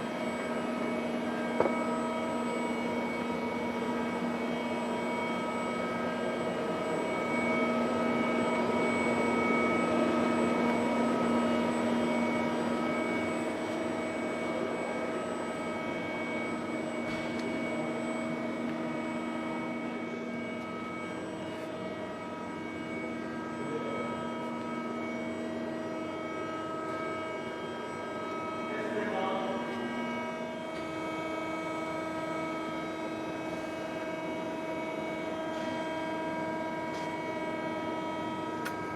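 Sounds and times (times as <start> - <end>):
machine whine over rushing hum: 0.0 - 38.9.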